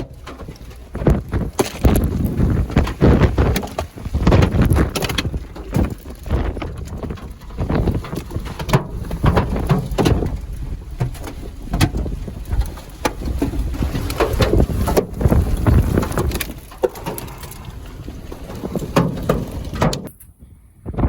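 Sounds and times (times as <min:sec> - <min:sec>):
wind and driving rumble: 0:00.0 - 0:21.0
hailstones cracking on vehicle: 0:00.9 - 0:20.1.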